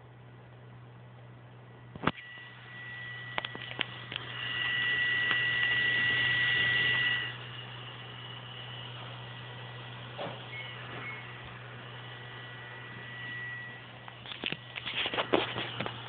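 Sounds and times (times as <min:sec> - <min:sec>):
electric fan humming and whining: 0:00.0 - 0:16.0.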